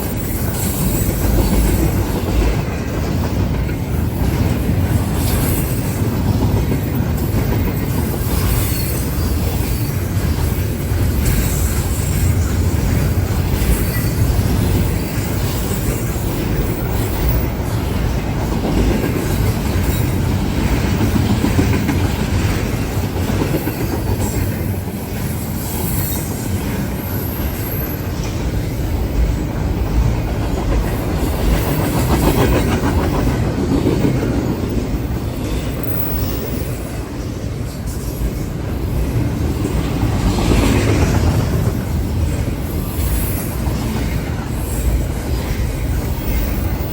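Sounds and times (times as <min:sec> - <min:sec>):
freight train wheels on rails: 0:00.0 - 0:46.9.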